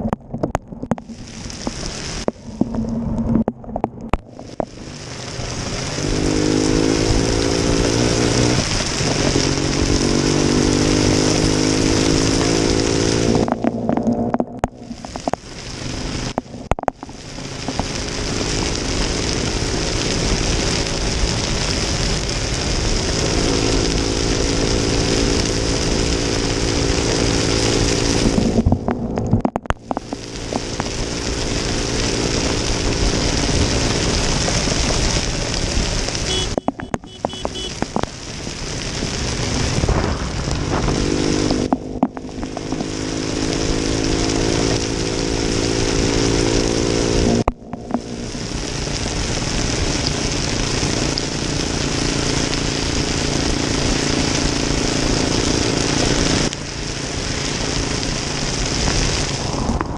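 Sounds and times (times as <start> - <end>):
heavy rain hiss: 1.0 - 2.9, 4.2 - 28.8, 29.8 - 59.9
motorcycle engine accelerating: 2.6 - 59.9.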